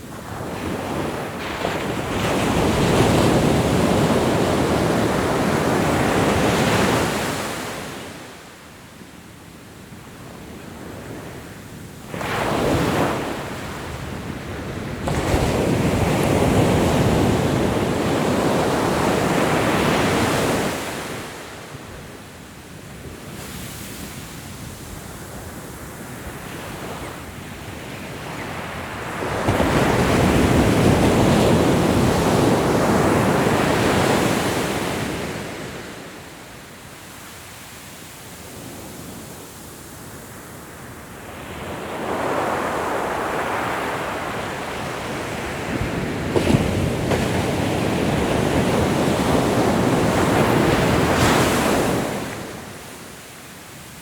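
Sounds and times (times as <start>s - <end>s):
ocean waves breaking on shore: 0.0s - 8.8s, 9.8s - 54.0s.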